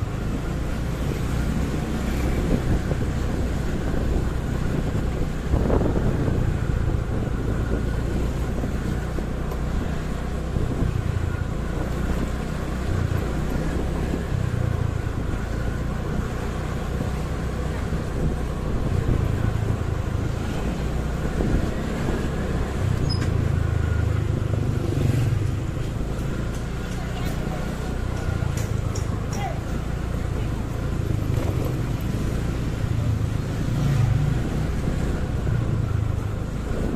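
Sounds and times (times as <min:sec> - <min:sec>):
city road traffic: 0:00.0 - 0:36.9
motorcycle engine hum: 0:00.0 - 0:36.9.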